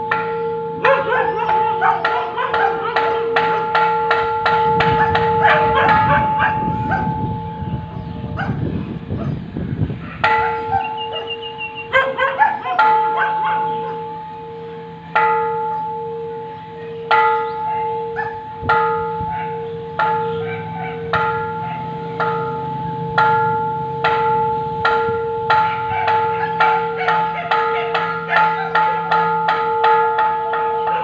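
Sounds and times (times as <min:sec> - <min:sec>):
large bell struck and ringing: 0:00.0 - 0:09.1, 0:10.2 - 0:31.0.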